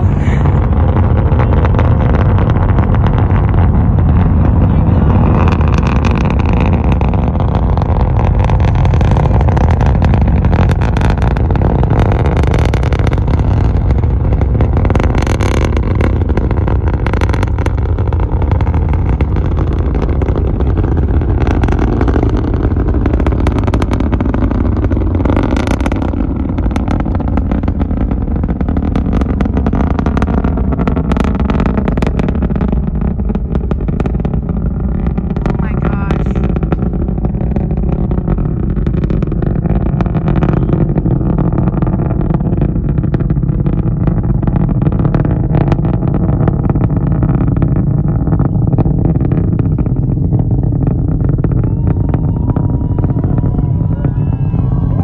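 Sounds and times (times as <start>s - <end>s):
rocket engine rumble with crackling: 0.0s - 55.0s.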